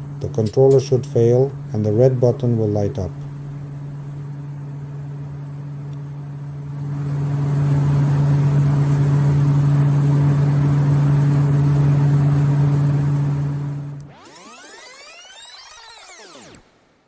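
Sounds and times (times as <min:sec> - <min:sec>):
blower fan motor humming: 0:00.0 - 0:16.6.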